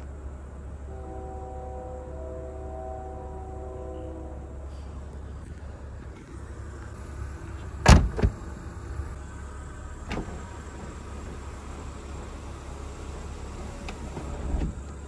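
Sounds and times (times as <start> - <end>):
sunroof motor whining: 0.0 - 15.0.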